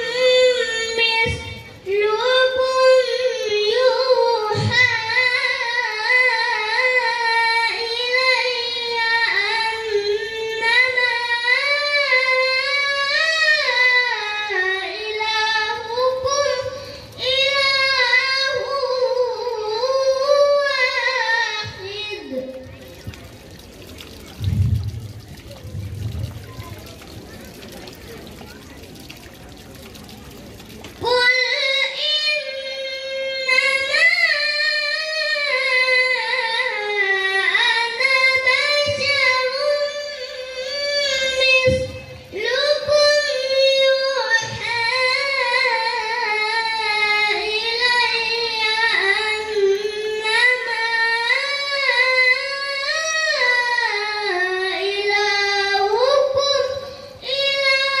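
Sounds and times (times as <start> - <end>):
boy chanting melodic recitation: 0.0 - 28.6, 31.0 - 58.0.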